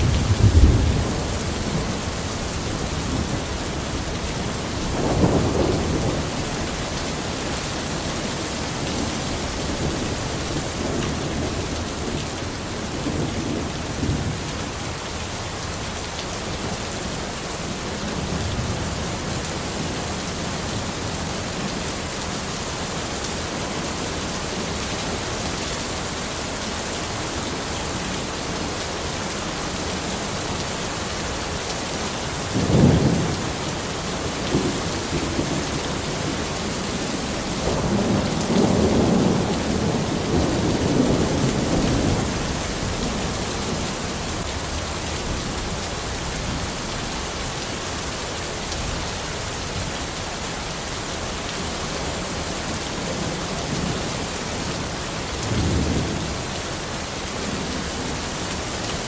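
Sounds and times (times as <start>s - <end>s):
rain falling on a forest: 0.0s - 59.0s.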